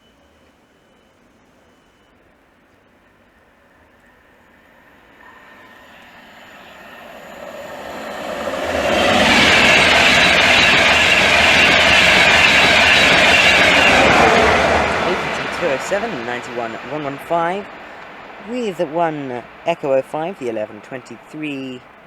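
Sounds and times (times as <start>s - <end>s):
rush of wheels on rail: 0.0s - 22.0s
train passing at speed: 0.0s - 22.0s.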